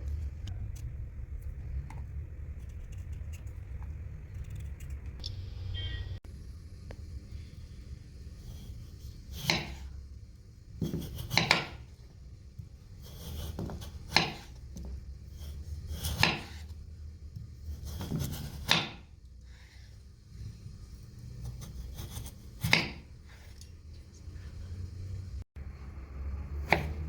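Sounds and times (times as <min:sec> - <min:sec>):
low steady hum: 0:00.0 - 0:26.6.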